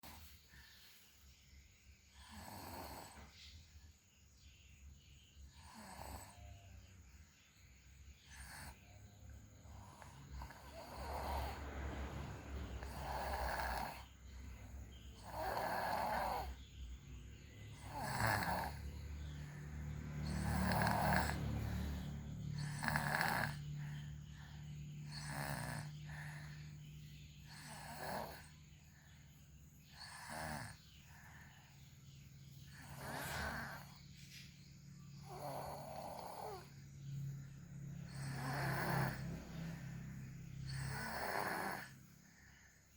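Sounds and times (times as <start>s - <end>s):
quiet breathing: 0.0s - 42.9s
loud snores: 2.1s - 3.4s, 5.4s - 6.9s, 8.2s - 28.9s, 29.8s - 42.2s.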